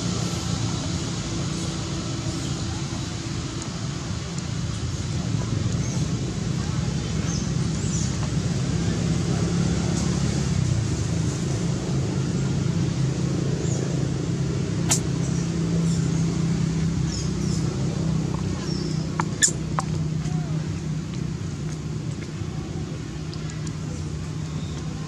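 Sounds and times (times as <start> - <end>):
low motor drone: 0.0 - 25.0.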